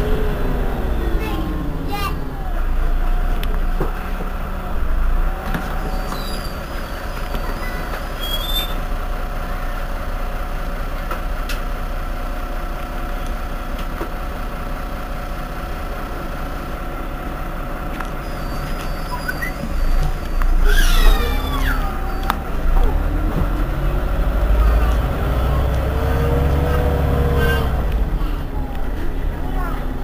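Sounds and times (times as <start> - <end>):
engine whine: 0.0 - 9.2, 12.7 - 30.0
bus diesel engine rumbling: 0.0 - 30.0.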